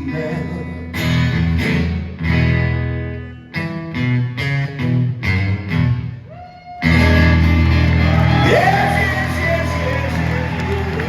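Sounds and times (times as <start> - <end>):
acoustic blues guitar: 0.0 - 9.0.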